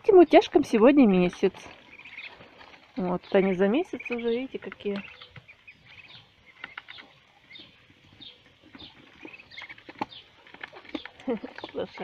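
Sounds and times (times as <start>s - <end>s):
ducklings peeping: 0.0s - 12.0s
bills pecking at trough: 0.1s - 12.0s.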